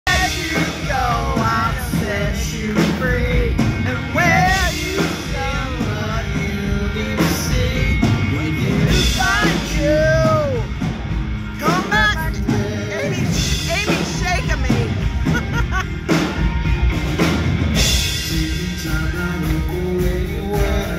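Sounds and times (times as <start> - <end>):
man singing: 0.0 - 10.8, 11.6 - 15.0, 17.8 - 20.9
drum kit: 0.0 - 20.9
electric guitars: 0.1 - 20.9.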